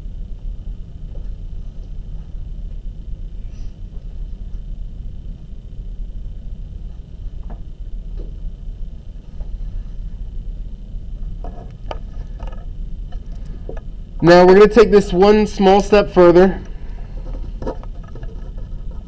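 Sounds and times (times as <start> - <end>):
low room rumble: 0.0 - 19.0.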